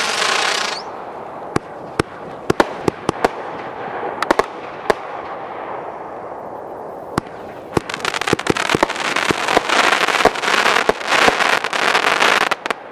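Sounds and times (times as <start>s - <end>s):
firework crackling: 0.0s - 5.4s, 7.2s - 12.9s.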